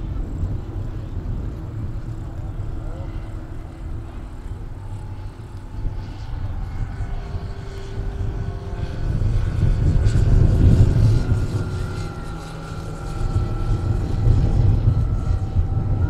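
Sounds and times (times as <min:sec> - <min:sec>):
model plane propeller drone: 0:00.0 - 0:16.0.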